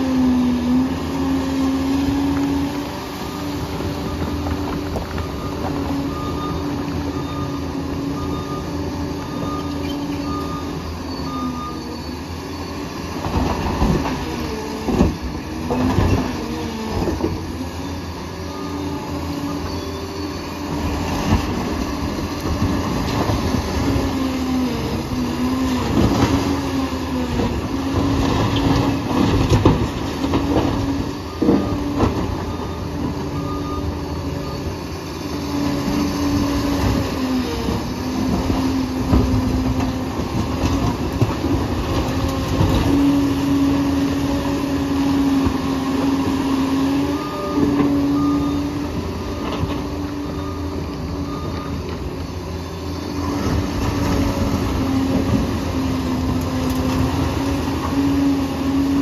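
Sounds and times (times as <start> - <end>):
bulldozer working: 0.0 - 59.0.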